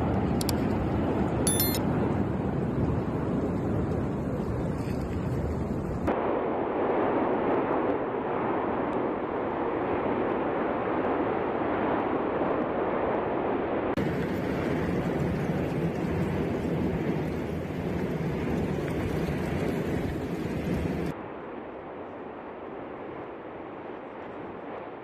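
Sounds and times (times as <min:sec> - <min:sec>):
wind buffeting microphone: 0:00.0 - 0:21.3
volcano rushing roar: 0:00.0 - 0:25.0.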